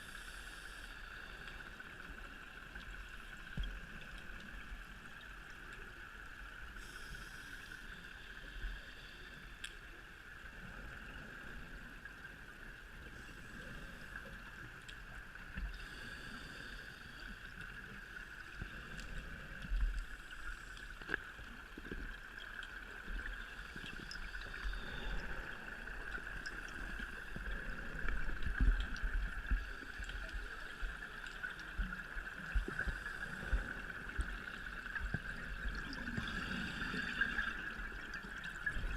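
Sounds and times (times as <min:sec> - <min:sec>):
underwater hiss: 0:00.0 - 0:02.4, 0:06.7 - 0:12.0, 0:13.0 - 0:21.2, 0:23.0 - 0:38.9
low rumbling and gurgling: 0:00.0 - 0:38.9
faint clicks: 0:00.7 - 0:10.1, 0:17.0 - 0:38.8.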